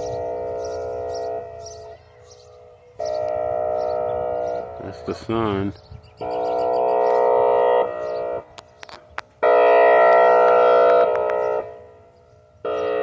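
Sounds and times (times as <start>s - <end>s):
horn blasts: 0.0s - 8.6s, 9.4s - 13.0s.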